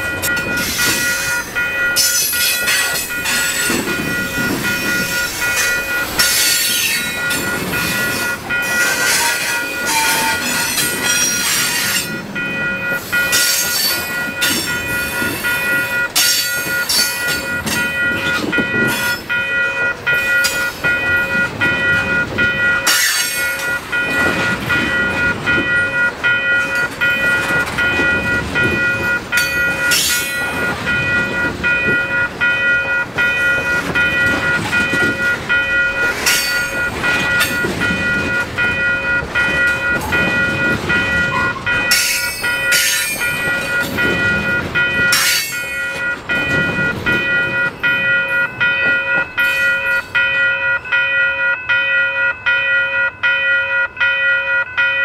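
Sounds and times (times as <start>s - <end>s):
wheels clacking over rail joints: 0.0s - 52.0s
train wheels rumbling on rail: 0.0s - 55.0s
wheel flanges squealing: 0.2s - 50.3s.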